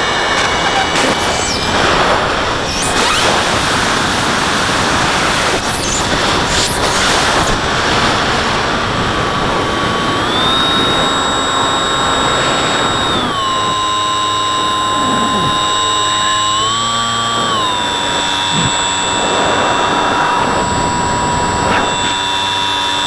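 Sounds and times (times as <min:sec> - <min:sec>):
wind rushing over microphone: 0:00.0 - 0:15.8, 0:16.8 - 0:22.8
electric propeller whining: 0:00.0 - 0:23.0.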